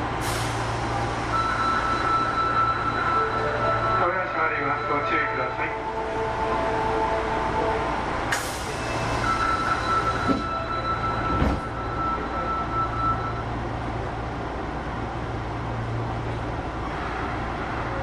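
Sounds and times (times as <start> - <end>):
subway train rumble: 0.0 - 18.0.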